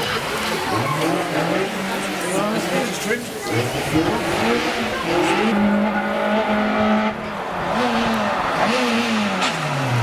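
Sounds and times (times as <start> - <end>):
rally car engine revving: 0.7 - 10.0.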